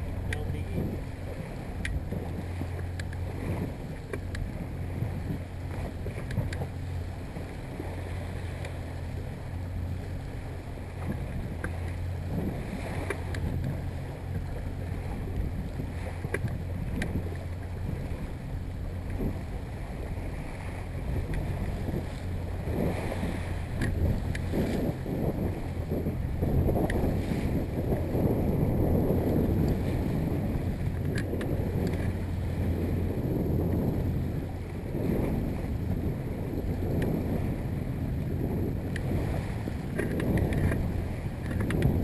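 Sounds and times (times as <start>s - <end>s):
outboard motor humming: 0.0s - 42.0s
water splashing against hull: 0.0s - 42.0s
wind buffeting microphone: 0.0s - 42.0s.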